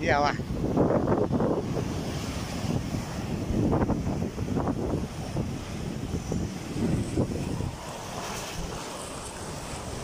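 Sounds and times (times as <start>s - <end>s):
surf breaking on sand: 0.0s - 10.0s
wind rumbling on microphone: 0.0s - 10.0s.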